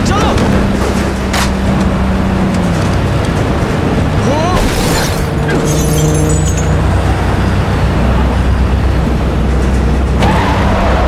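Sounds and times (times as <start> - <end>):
low engine drone: 0.0 - 11.0
road and wind noise: 0.0 - 11.0.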